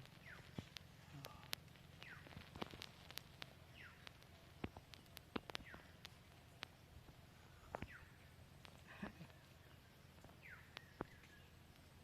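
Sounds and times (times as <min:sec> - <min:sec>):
sharp ticks and clicks: 0:00.0 - 0:08.0, 0:08.6 - 0:09.4, 0:10.1 - 0:12.0
faint bird chirps: 0:00.0 - 0:12.0.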